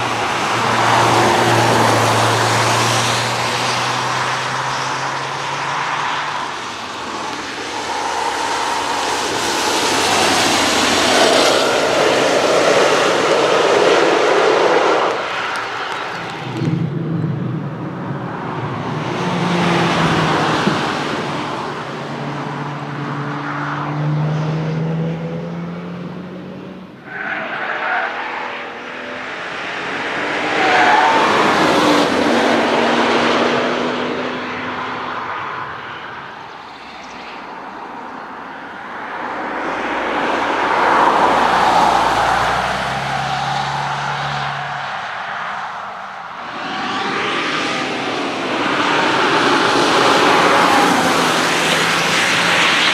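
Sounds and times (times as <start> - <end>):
race cars passing: 0.0 - 52.9.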